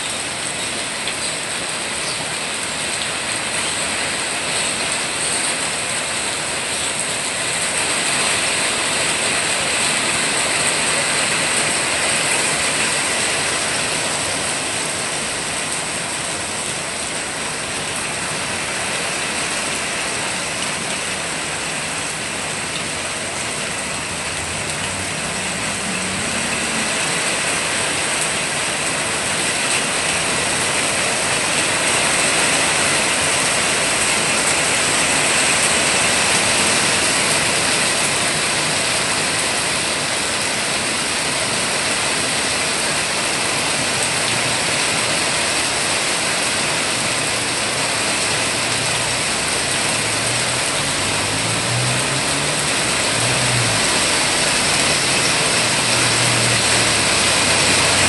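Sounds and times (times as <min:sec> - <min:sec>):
rain falling on foliage: 0:00.0 - 0:58.0.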